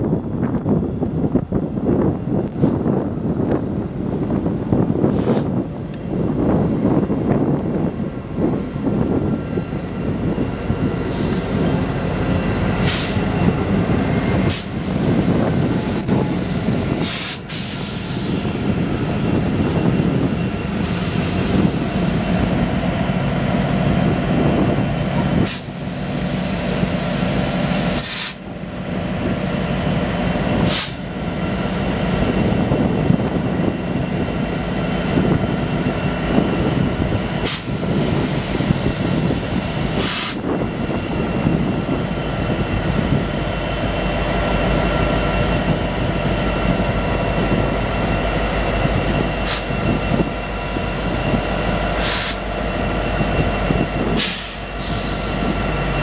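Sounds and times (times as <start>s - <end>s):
locomotive engines rumbling: 0.0s - 56.0s.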